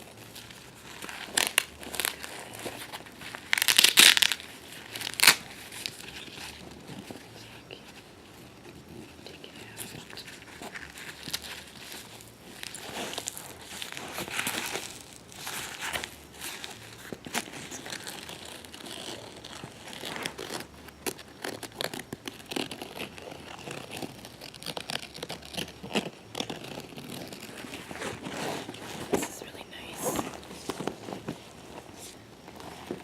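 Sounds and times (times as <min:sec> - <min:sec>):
hands crinkling a carrier: 0:00.0 - 0:33.0.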